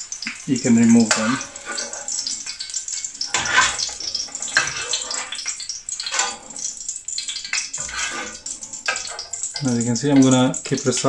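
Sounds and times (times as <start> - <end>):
hot oil sizzling in a pan: 0.0 - 11.0
metal ladle scraping a pan: 0.1 - 9.6.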